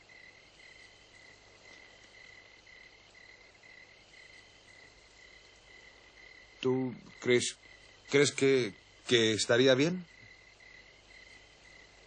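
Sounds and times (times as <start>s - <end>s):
crickets chirping faintly: 0.0s - 12.0s.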